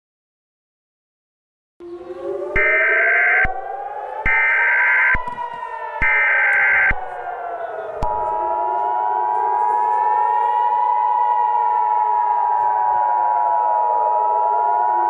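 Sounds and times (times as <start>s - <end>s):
wailing siren: 1.8s - 15.0s.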